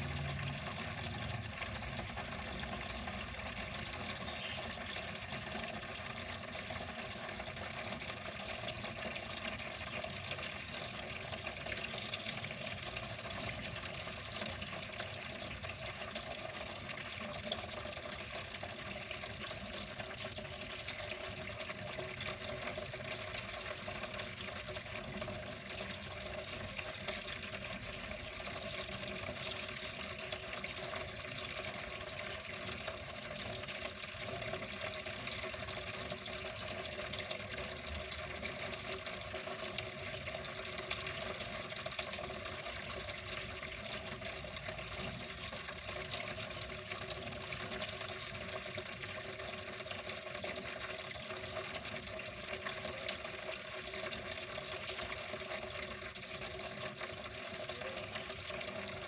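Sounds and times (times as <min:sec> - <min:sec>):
water running: 0:00.0 - 0:59.0.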